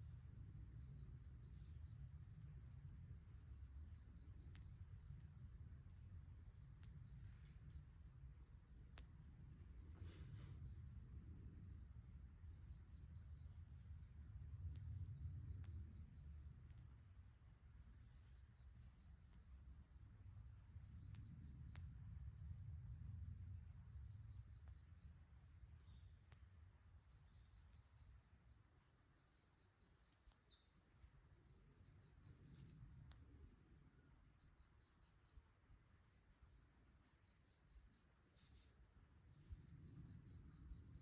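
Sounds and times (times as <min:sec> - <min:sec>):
insects trilling: 0:00.1 - 0:41.0.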